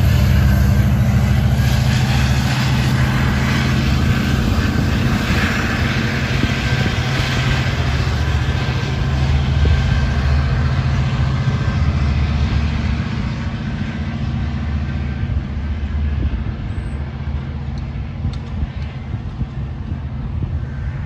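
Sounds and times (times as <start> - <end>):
diesel locomotive engine throbbing: 0.0 - 21.0.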